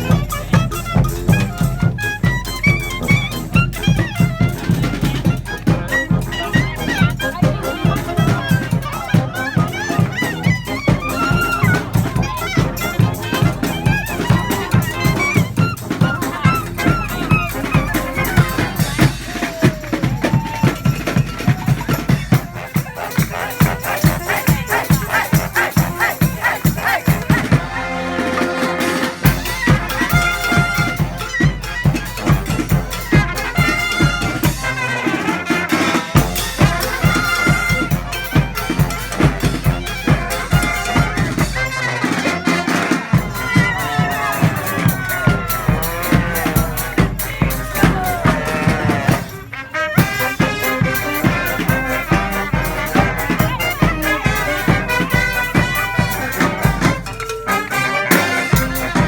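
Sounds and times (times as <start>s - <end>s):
brass horns playing tune: 0.0s - 59.0s
driving drum beat: 0.0s - 59.0s.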